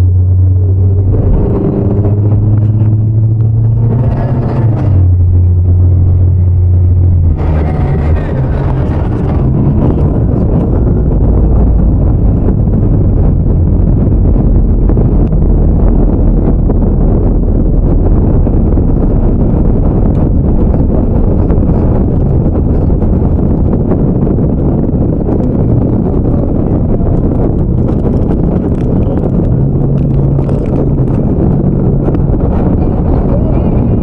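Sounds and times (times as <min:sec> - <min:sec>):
low engine drone: 0:00.0 - 0:34.0
tyres rumbling on road: 0:00.0 - 0:34.0.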